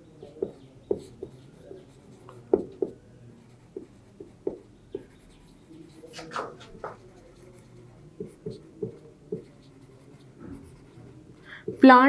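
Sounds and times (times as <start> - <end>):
marker pen on whiteboard: 0.2 - 12.0.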